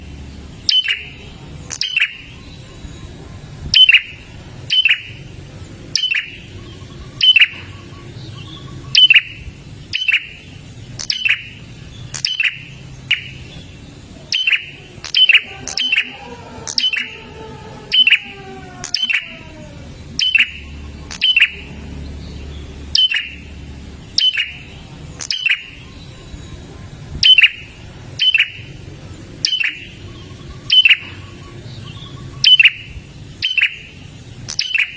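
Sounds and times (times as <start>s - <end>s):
bird chirping: 0.0s - 34.9s.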